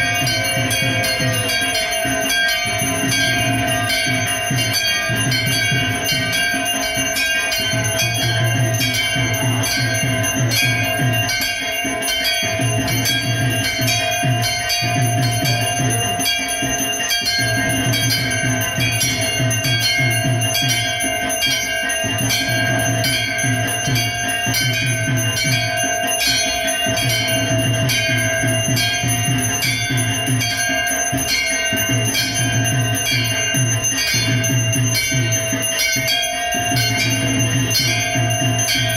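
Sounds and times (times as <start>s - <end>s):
temple bells ringing rapidly: 0.0s - 38.9s.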